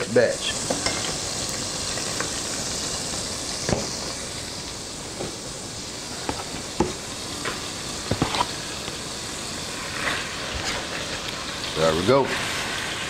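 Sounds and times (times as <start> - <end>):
hot oil sizzling in a pot: 0.0 - 13.0.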